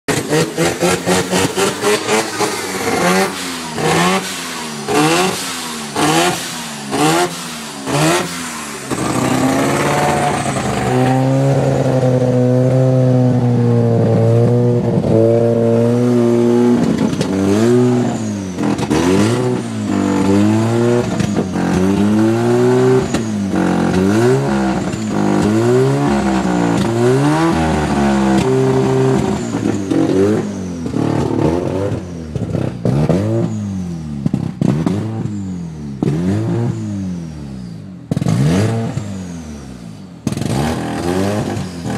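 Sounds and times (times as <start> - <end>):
rotary engine revving: 0.1 - 41.9.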